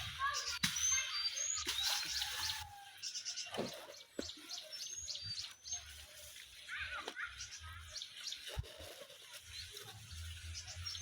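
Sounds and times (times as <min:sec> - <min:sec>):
birds chirping and whistling: 0:00.0 - 0:11.0.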